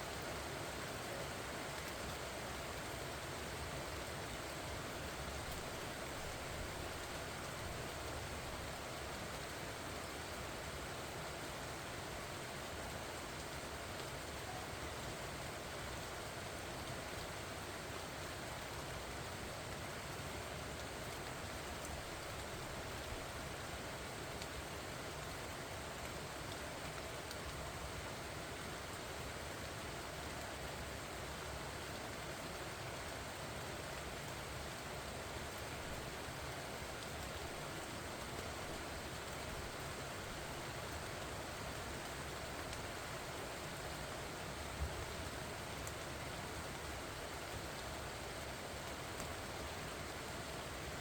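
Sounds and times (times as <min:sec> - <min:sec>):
rain falling on leaves: 0:00.0 - 0:51.0.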